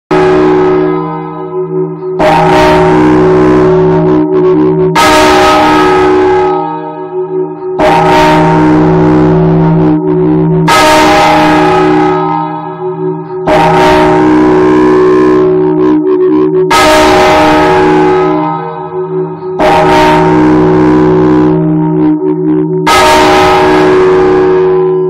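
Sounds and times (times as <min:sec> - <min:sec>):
church bell clanging: 0:00.1 - 0:25.0.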